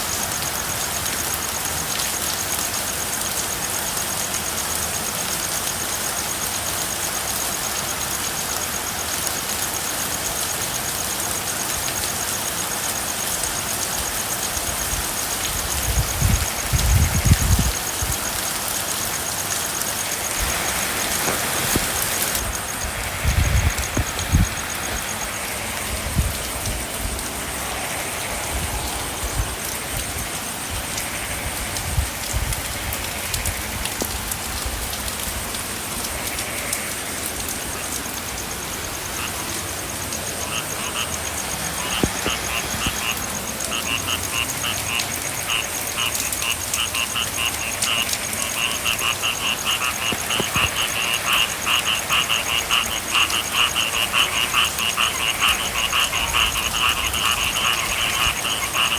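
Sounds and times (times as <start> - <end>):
frogs trilling: 0.0 - 34.3, 35.9 - 58.9
steady rain: 0.0 - 58.9.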